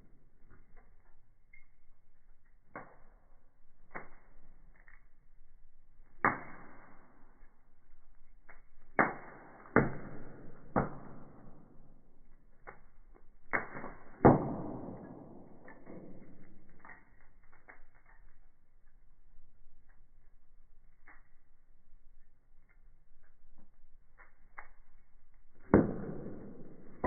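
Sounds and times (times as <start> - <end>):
firewood crackling: 0.0 - 27.0
sharp pops of fire: 0.1 - 5.4, 6.0 - 21.6, 22.2 - 27.0.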